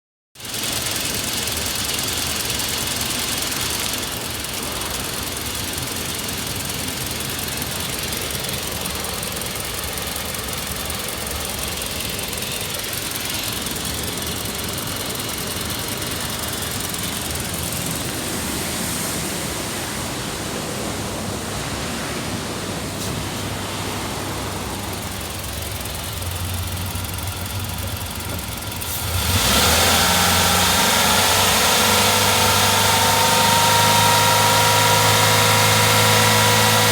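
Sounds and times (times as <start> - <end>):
engine idling and revving: 0.4 - 36.9.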